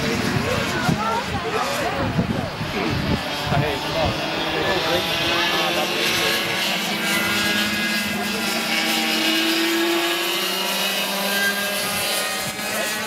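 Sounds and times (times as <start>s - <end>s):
go-kart engines revving: 0.0s - 13.0s.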